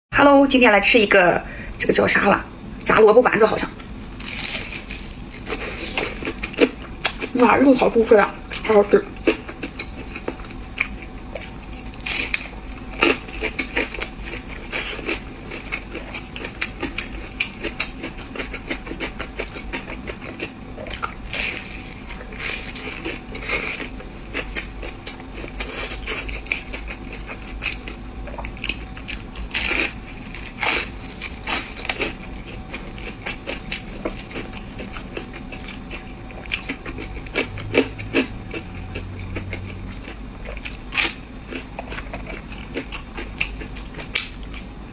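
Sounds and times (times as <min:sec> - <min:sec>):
chewing crispy fried food: 0:03.7 - 0:44.9.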